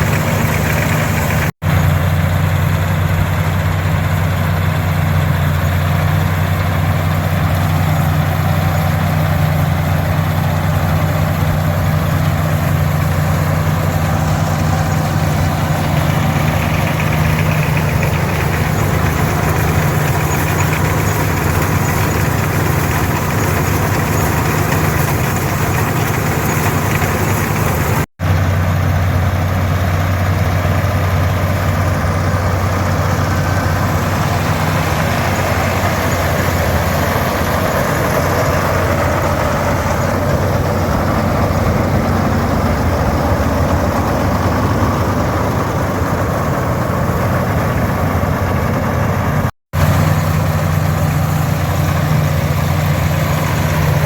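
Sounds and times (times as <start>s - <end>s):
threshing machinery hum: 0.0s - 54.0s
tractor engine drone: 0.0s - 54.0s.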